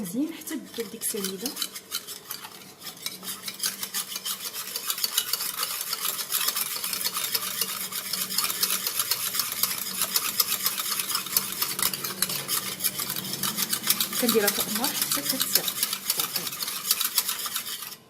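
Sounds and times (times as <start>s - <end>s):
utensil stirring liquid in bowl: 0.0s - 18.0s.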